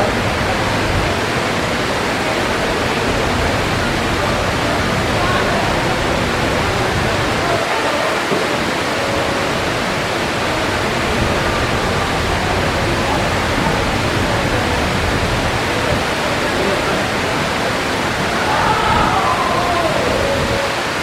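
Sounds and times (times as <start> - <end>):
faint crowd chatter: 0.0 - 21.0
waterfall rushing: 0.0 - 21.0.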